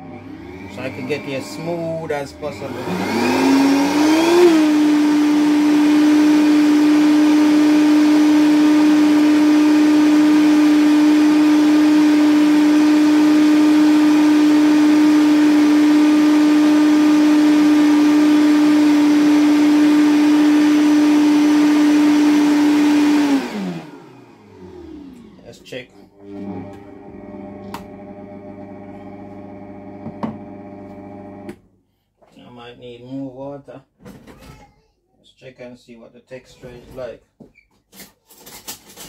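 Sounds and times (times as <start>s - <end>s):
blender running: 0.0s - 31.6s.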